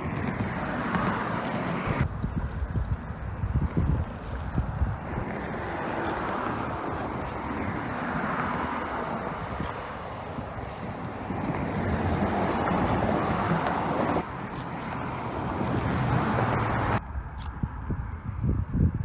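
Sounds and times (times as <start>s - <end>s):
traffic passing: 0.0s - 18.9s.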